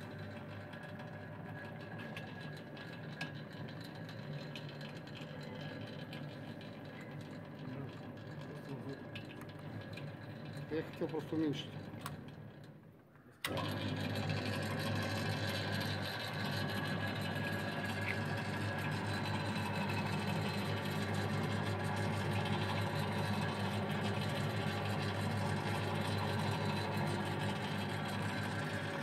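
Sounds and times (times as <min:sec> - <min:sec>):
dough mixer motor humming: 0:00.0 - 0:12.8, 0:13.4 - 0:29.0.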